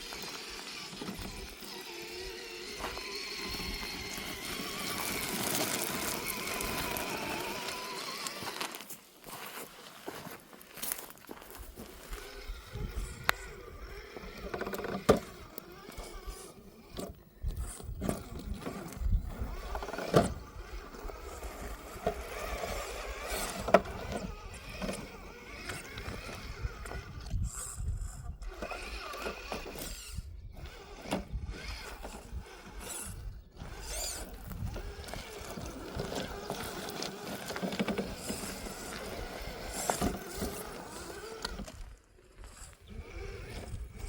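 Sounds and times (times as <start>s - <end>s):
electric motor and drivetrain whine: 0.0s - 9.0s, 11.6s - 44.0s.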